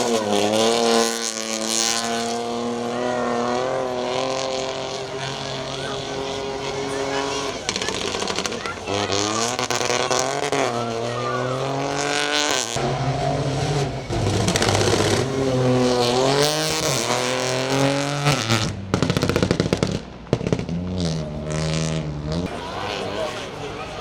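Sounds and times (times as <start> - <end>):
exhaust crackles: 0.0 - 24.0
rally car engine revving: 0.0 - 24.0.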